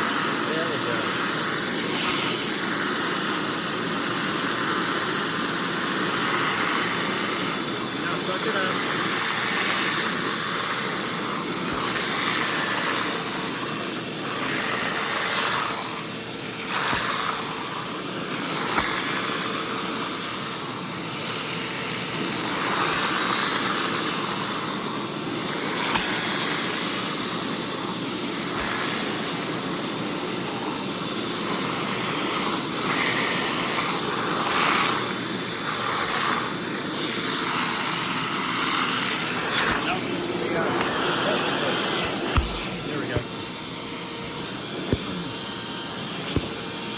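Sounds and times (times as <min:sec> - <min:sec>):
carpet cleaner whining: 0:00.0 - 0:46.9.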